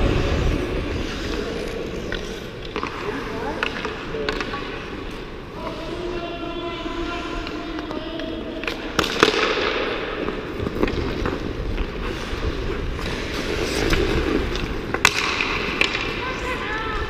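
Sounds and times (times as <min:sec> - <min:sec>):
skate blades scraping ice: 0:00.0 - 0:17.0
hockey sticks and puck clacking: 0:00.1 - 0:17.0.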